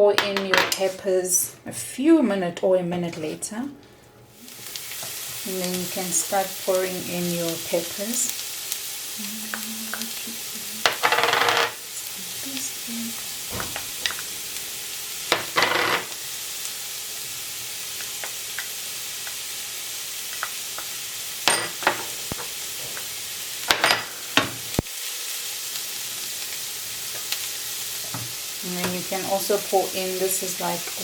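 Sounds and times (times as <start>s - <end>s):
onions and peppers sizzling in oil: 4.3s - 31.0s.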